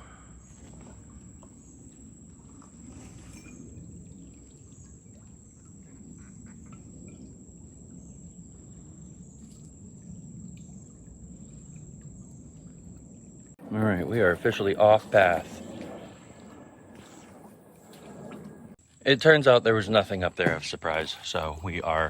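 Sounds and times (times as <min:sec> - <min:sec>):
wind rumble: 0:00.0 - 0:18.8.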